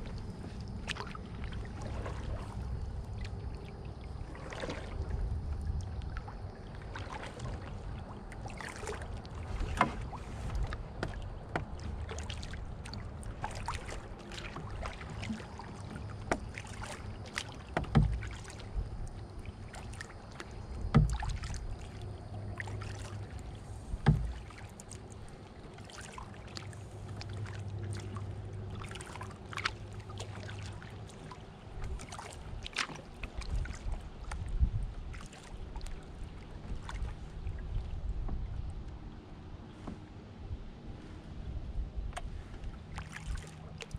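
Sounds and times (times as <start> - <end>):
paddle splashing and dripping: 0.0 - 40.3, 42.0 - 43.9.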